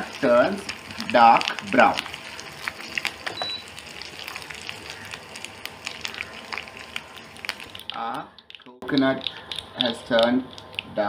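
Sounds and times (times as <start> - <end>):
food sizzling in hot oil: 0.0 - 11.0
small crackles and pops: 0.0 - 11.0.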